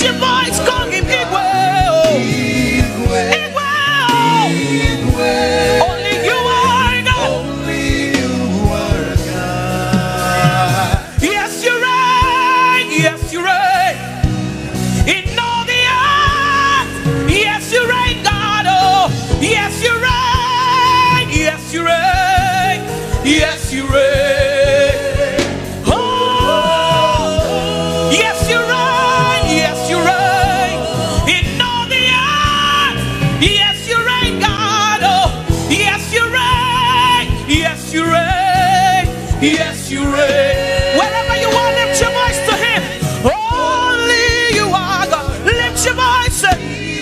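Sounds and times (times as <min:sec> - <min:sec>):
person singing with vibrato: 0:00.0 - 0:14.2, 0:15.1 - 0:47.0
band playing gospel music: 0:00.0 - 0:47.0.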